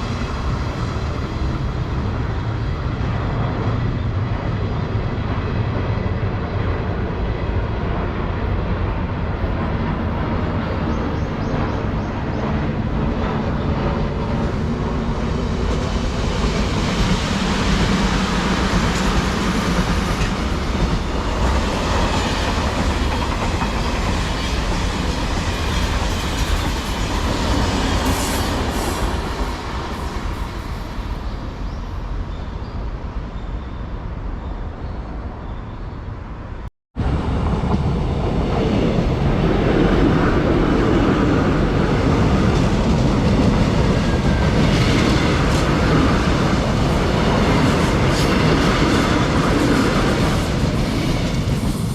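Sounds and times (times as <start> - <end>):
train wheels rumbling on rails: 0.0 - 34.2, 37.0 - 51.9.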